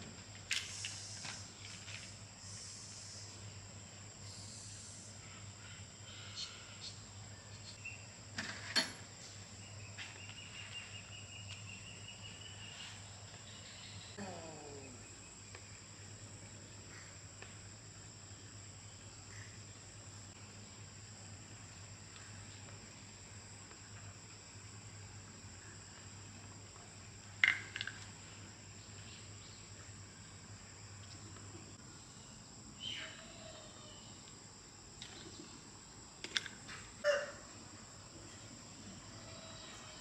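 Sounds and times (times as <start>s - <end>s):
high insect drone: 0.0s - 40.0s.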